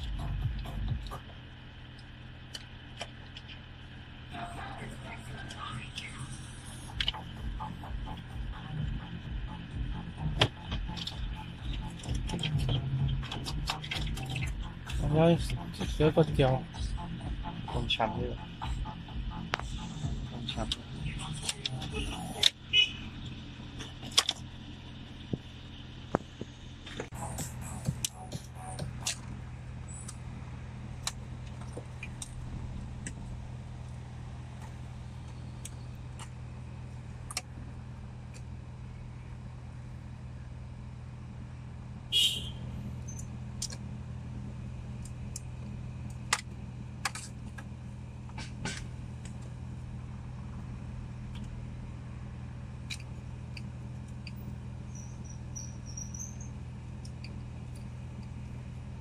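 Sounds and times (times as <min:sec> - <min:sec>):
car low hum: 0:00.0 - 0:59.0.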